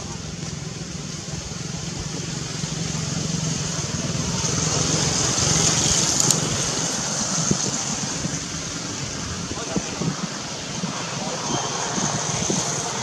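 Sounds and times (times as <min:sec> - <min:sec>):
high hissing drone: 0:00.0 - 0:13.0.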